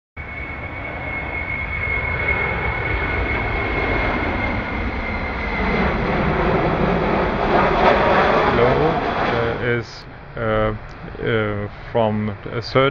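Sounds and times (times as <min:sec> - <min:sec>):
airplane engine roar: 0:00.2 - 0:12.9
high engine whine: 0:00.2 - 0:12.9.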